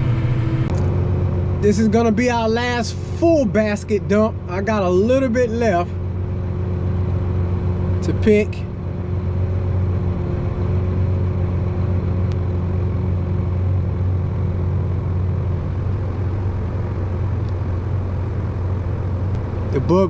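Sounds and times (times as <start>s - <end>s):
tractor and combine droning: 0.0s - 20.0s.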